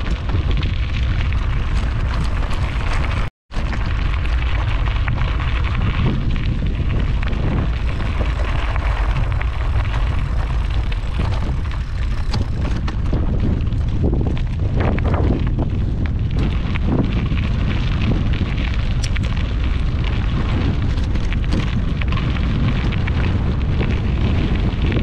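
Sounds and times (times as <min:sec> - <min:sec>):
bicycle tyres on gravel: 0:00.0 - 0:25.0
wind buffeting microphone: 0:00.0 - 0:25.0.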